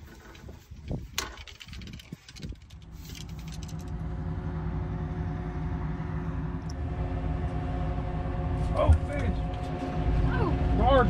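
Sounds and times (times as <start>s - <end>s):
engine drone: 1.3s - 11.0s.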